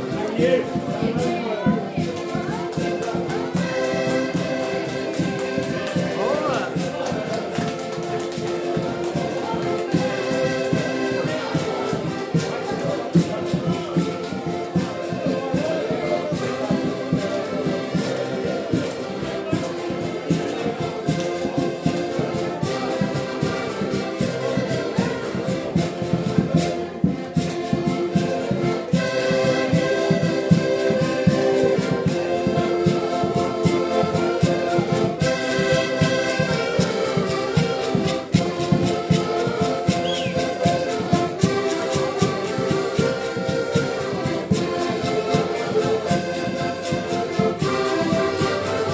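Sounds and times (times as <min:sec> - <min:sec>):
button accordions playing: 0:00.0 - 0:48.9.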